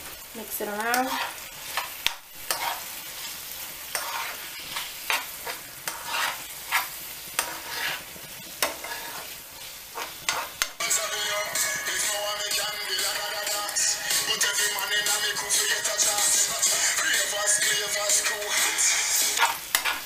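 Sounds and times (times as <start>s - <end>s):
food sizzling in frying pan: 0.0s - 20.0s
utensil scraping pan: 0.9s - 11.8s, 14.1s - 20.0s.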